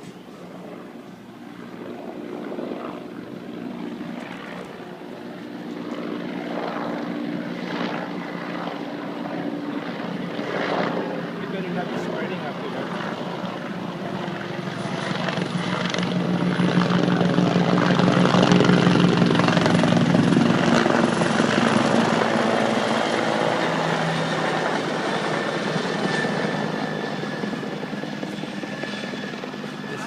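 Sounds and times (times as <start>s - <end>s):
helicopter passing overhead: 0.0s - 30.0s.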